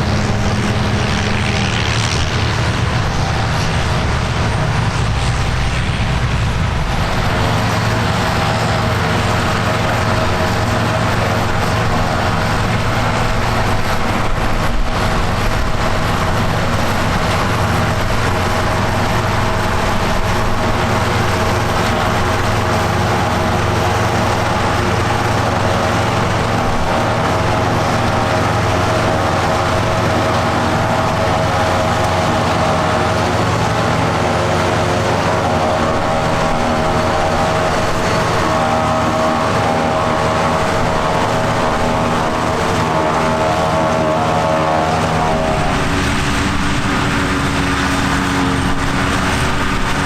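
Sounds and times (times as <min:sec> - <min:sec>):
farm machinery engine drone: 0:00.0 - 0:50.0.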